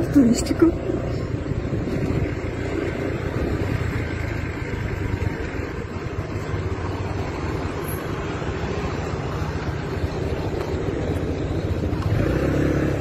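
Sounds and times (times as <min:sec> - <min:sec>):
motor scooter engine running: 0:00.0 - 0:13.0.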